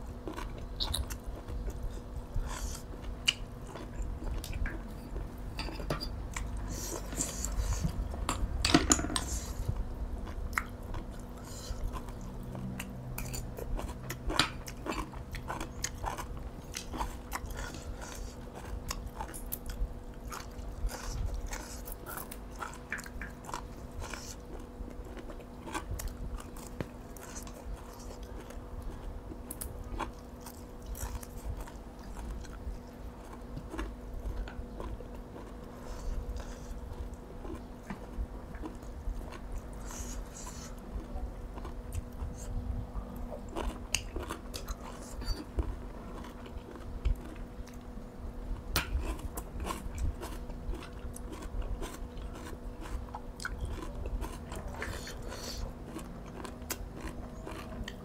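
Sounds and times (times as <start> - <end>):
person chewing raw vegetables: 0.0 - 58.0
steady low hum: 0.0 - 58.0.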